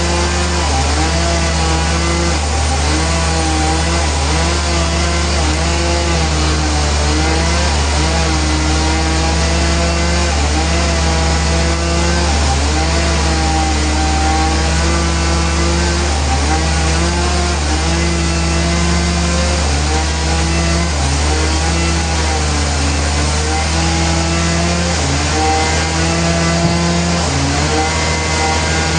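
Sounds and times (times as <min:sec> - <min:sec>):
sawmill saw cutting log: 0:00.0 - 0:28.9.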